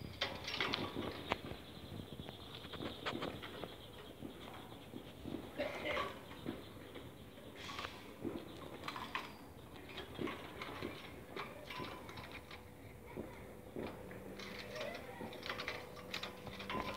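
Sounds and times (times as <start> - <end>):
faint bird sounds: 0.1 - 16.9.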